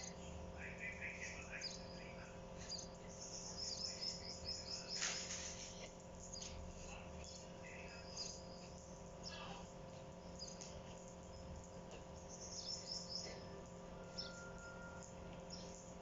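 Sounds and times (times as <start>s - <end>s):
faint bird chirps: 0.0s - 16.0s
steady low hum: 0.0s - 16.0s.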